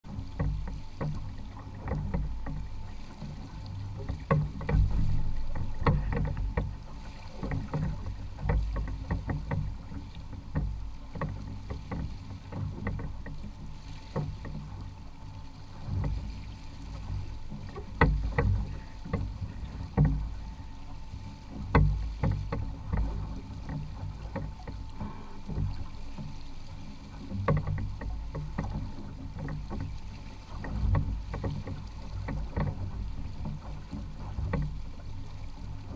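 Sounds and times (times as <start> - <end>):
water lapping against boat hull: 0.0 - 35.9
light knocks and ticks: 0.1 - 35.9.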